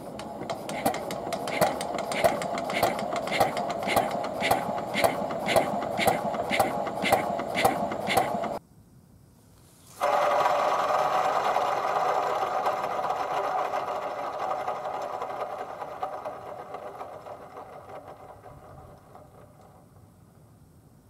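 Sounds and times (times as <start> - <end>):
small diesel engine running: 0.0 - 8.6, 10.0 - 19.8.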